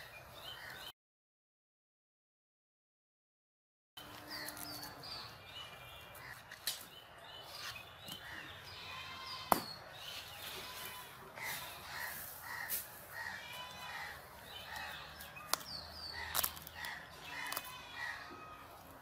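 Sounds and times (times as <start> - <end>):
birds chirping: 0.0 - 1.0, 4.0 - 19.0.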